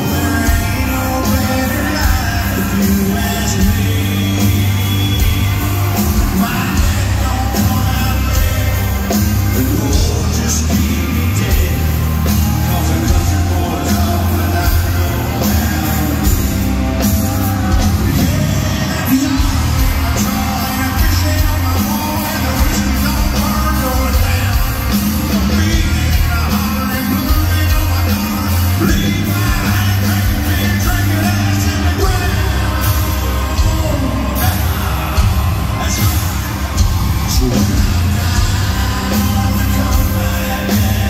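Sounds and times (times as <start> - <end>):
drums: 0.0 - 41.0
electric guitars: 0.0 - 41.0
keyboards: 0.0 - 41.0
lead vocals: 0.0 - 41.0
steady bass line: 0.0 - 41.0.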